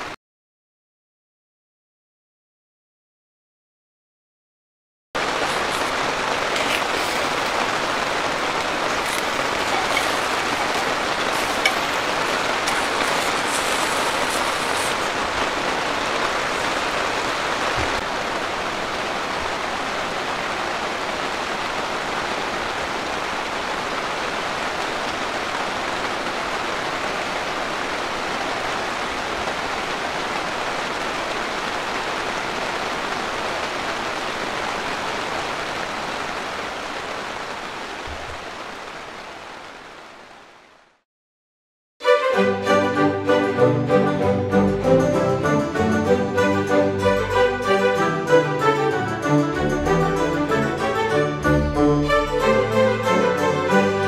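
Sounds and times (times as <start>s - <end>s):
heavy rain on a tent: 5.2s - 41.0s, 42.3s - 54.0s.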